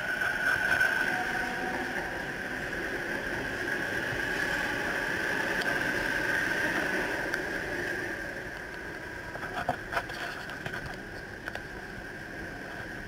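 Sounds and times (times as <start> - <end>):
high-pitched train whine: 0.0 - 13.0
train running past: 0.0 - 13.0.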